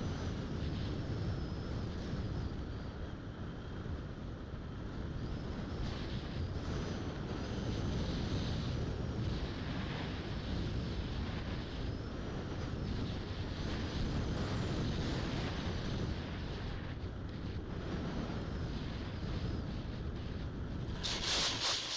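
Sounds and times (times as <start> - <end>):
wind buffeting camera: 0.0 - 21.9.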